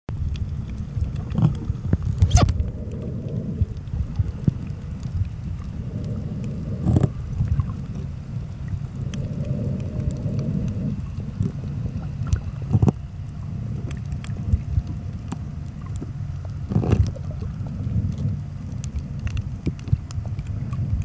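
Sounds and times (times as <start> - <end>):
low underwater rumble of water: 0.1 - 21.0
parrotfish crunching coral: 0.1 - 21.0.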